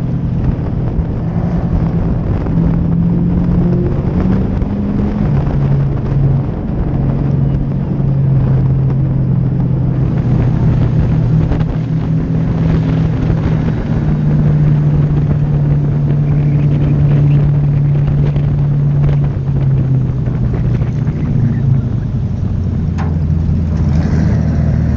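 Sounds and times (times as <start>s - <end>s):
wind rushing past: 0.0s - 21.4s
race car engine at speed: 0.0s - 24.9s.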